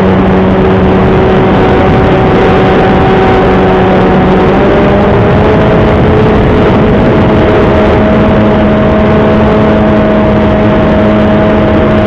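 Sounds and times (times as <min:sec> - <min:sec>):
electric motor and propeller: 0:00.0 - 0:12.0
wind rushing over microphone: 0:00.0 - 0:12.0.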